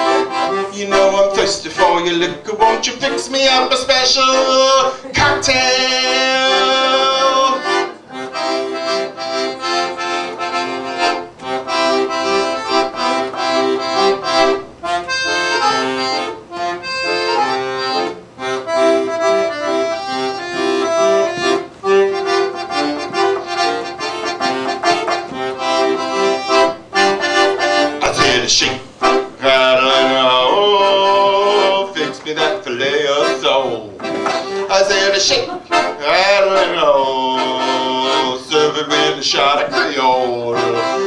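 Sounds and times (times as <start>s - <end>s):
accordion playing: 0.0s - 41.0s.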